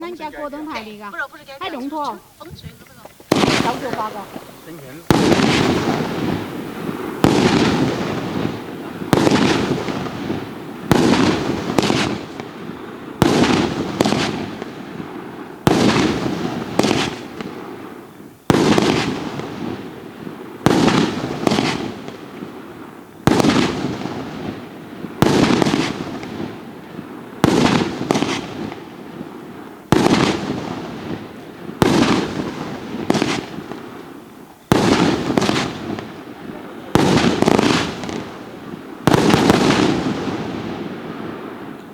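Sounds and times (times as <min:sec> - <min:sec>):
fireworks cake bangs: 0:00.0 - 0:41.9.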